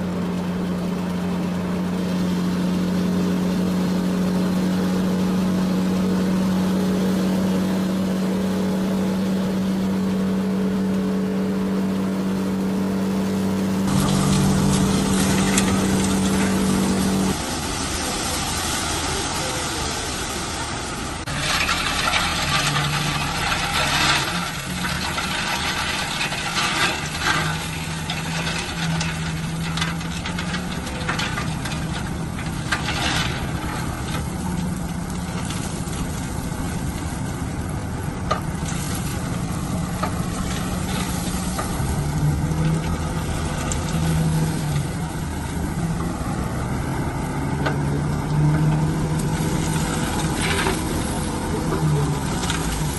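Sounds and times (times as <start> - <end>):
heavy construction machine engine: 0.0 - 52.9
rough machine working noise: 0.0 - 52.9.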